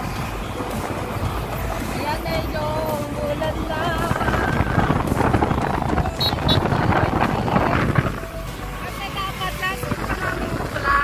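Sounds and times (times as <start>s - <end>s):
road and engine noise: 0.0s - 11.0s
wind buffeting microphone: 0.0s - 11.0s.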